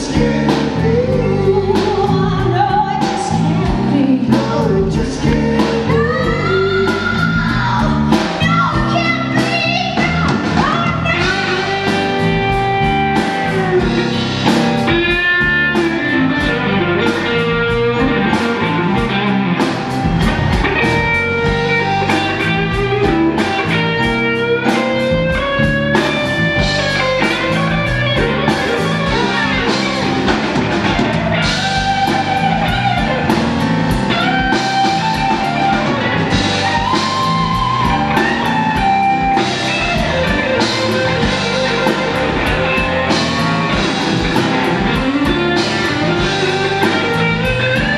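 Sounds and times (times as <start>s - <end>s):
blues band playing: 0.0s - 47.9s
drum kit: 0.0s - 47.9s
electric guitar with vibrato: 0.0s - 47.9s.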